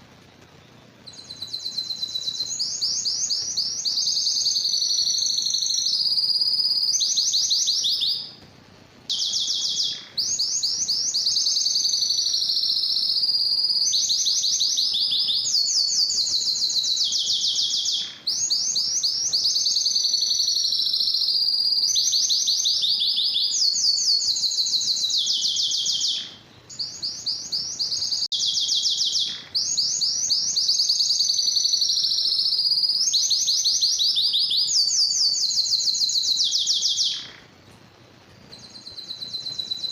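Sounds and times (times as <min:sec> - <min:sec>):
canary singing fast trills: 0:00.0 - 0:37.6, 0:38.5 - 0:39.9.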